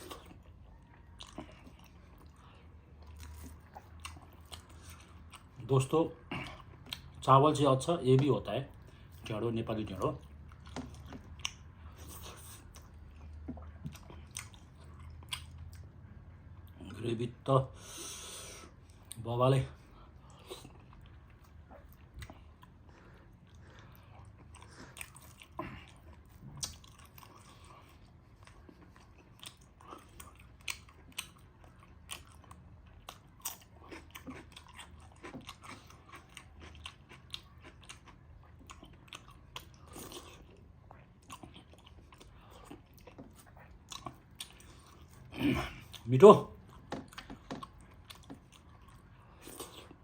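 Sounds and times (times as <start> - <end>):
chewing and biting: 0.0 - 7.2, 9.9 - 16.0, 20.2 - 50.0.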